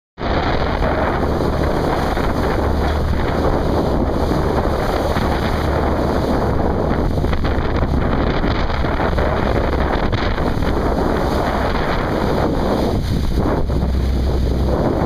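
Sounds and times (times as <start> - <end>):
boat rushing through rough sea: 0.2 - 15.0
wave spray over bow: 0.2 - 15.0
wind rumble on microphone: 0.2 - 15.0.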